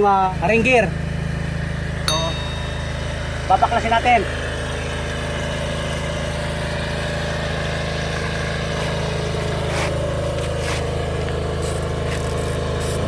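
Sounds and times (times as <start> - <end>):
engine idling: 0.5 - 12.9.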